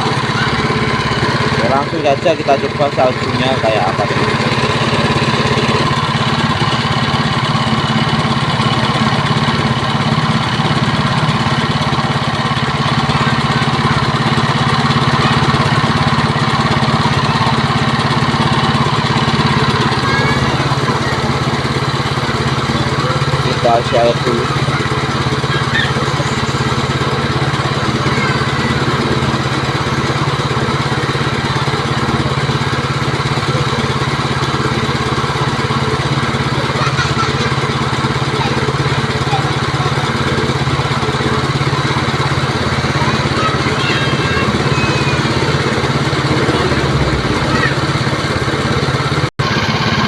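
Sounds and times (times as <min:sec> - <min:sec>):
small petrol engine running: 0:00.0 - 0:50.0.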